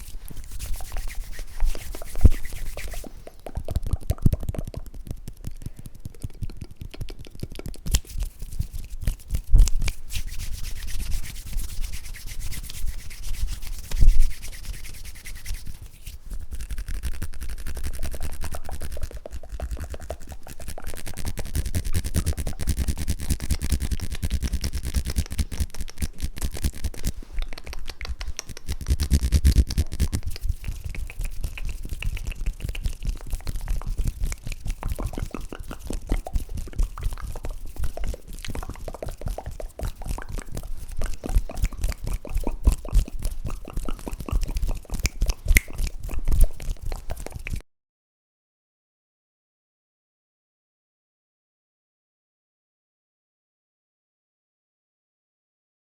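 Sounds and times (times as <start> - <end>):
hands rubbing and scratching: 0.0 - 47.6.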